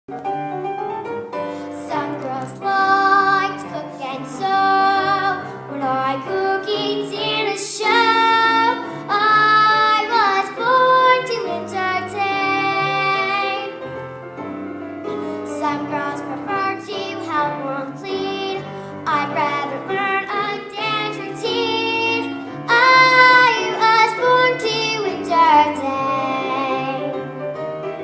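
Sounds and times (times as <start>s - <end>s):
instrumental accompaniment: 0.1s - 28.0s
girl singing: 1.7s - 13.8s, 15.4s - 27.2s.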